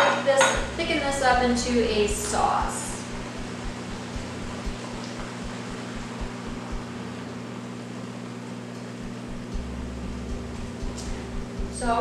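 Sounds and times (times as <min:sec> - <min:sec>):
low hum: 0:00.6 - 0:07.8, 0:08.7 - 0:12.0
steady hissing noise: 0:00.6 - 0:08.1, 0:08.8 - 0:12.0.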